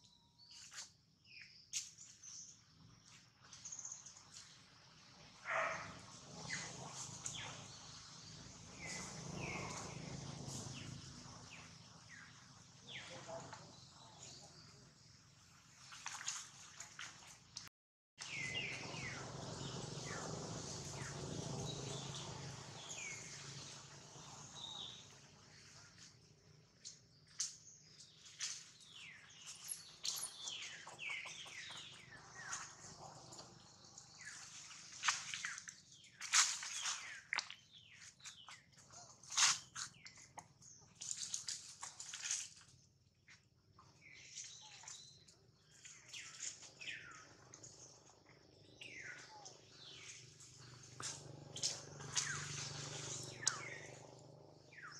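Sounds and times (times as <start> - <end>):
faint outdoor background: 0.0 - 54.9.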